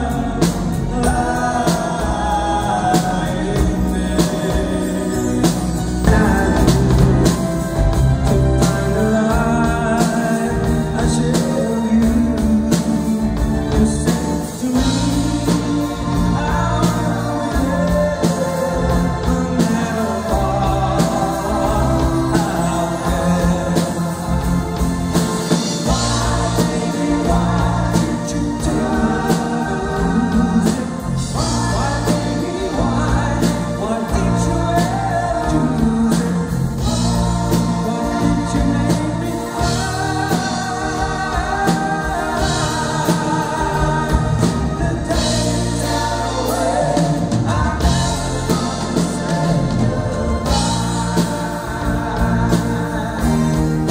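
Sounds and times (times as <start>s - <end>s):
live band playing: 0.0s - 53.9s
person singing: 0.0s - 53.9s.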